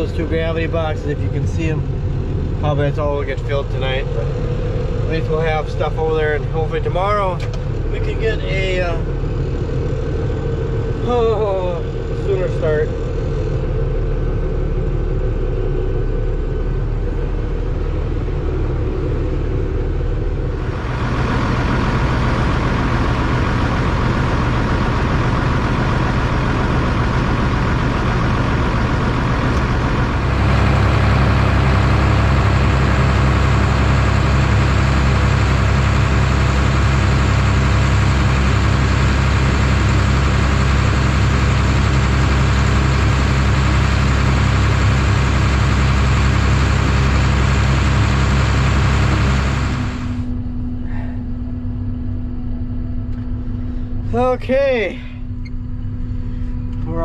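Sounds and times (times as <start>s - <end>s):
farm machine engine running: 0.0s - 50.9s.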